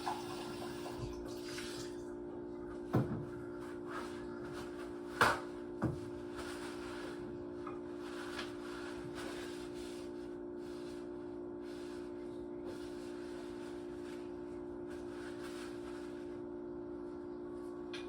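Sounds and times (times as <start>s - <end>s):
kitchen appliance humming: 0.0s - 18.0s.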